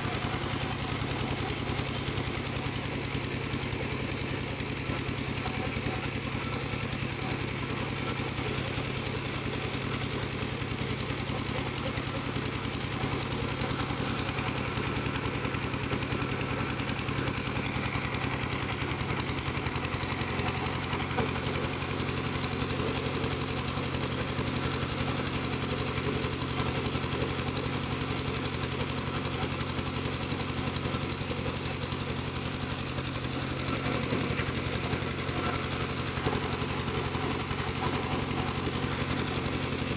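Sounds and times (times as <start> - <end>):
piling machine engine chugging: 0.0 - 39.9.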